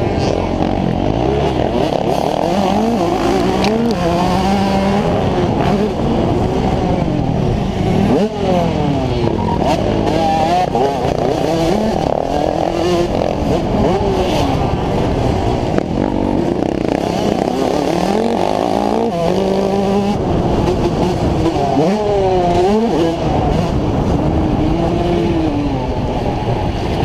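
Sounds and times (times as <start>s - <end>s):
motorcycle engine revving: 0.0s - 27.0s
other motocross bikes: 0.0s - 27.0s.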